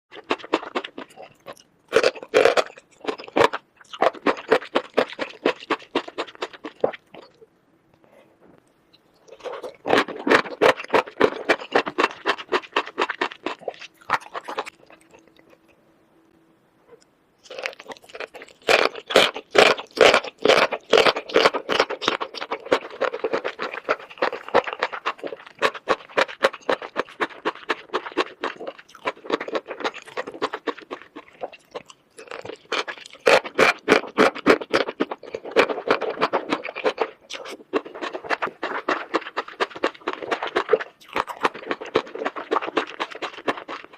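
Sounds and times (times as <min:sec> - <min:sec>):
chewing crunchy food: 0:00.1 - 0:15.8, 0:16.9 - 0:43.9.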